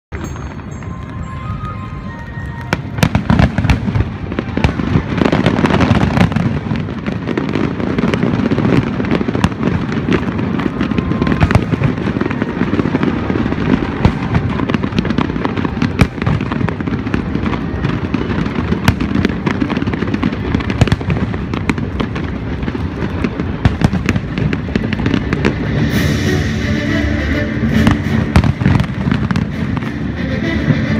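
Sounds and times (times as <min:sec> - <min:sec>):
firework booms and crackling: 0:00.2 - 0:30.9.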